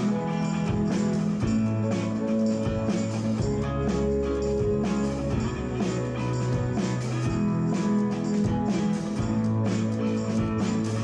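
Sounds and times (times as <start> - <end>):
guitars strumming chords: 0.0 - 11.0
worship band playing: 0.0 - 11.0.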